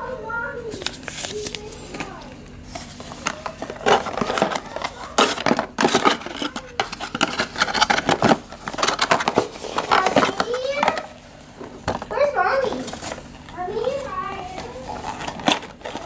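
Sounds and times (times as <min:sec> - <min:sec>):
cardboard packaging rustling: 0:00.7 - 0:16.0.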